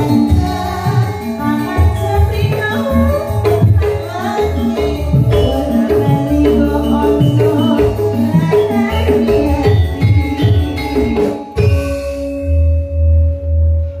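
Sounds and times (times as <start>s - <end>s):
band playing through speakers: 0.0s - 14.0s
mallet percussion melody: 0.0s - 14.0s
pulsing bass: 0.0s - 14.0s.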